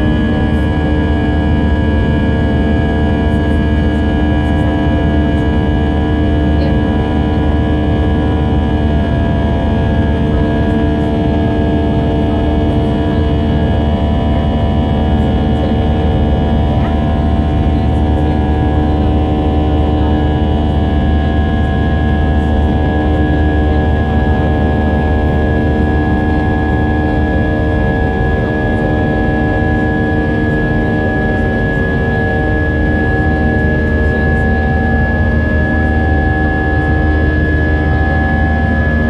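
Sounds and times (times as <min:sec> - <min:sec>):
airplane engine drone: 0:00.0 - 0:39.0.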